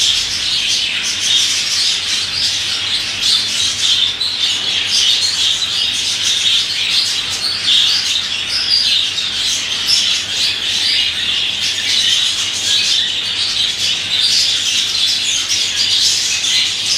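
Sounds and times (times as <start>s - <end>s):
budgerigar chattering: 0.0s - 16.9s.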